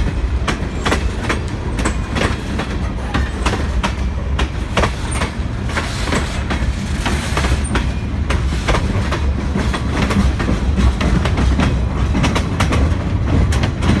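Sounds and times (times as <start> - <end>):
railway cars rumbling past: 0.0 - 14.0
wheels clicking over rail joints: 0.0 - 14.0.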